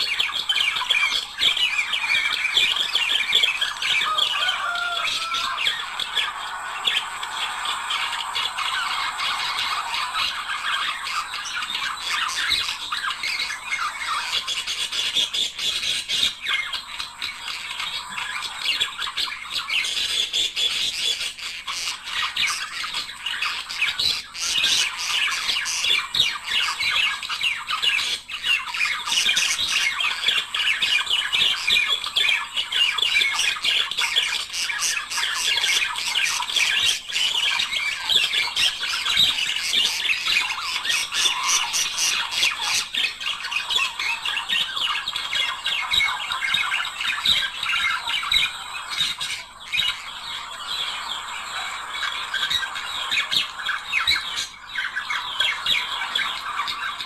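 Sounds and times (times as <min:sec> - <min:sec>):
budgerigars chattering and warbling: 0:00.0 - 0:57.0.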